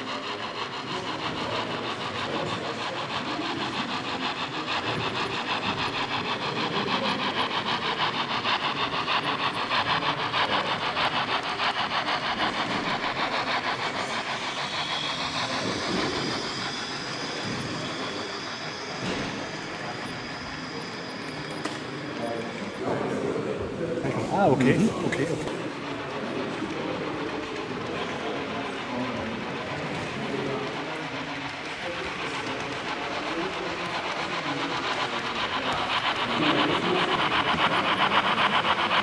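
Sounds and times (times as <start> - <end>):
model train clicking on track: 0.0 - 39.0.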